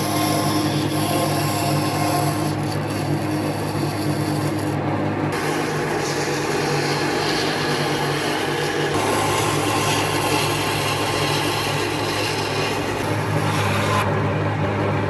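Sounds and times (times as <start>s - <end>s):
power tool motor humming: 0.0s - 14.1s
abrasive noise on wood: 0.0s - 15.0s.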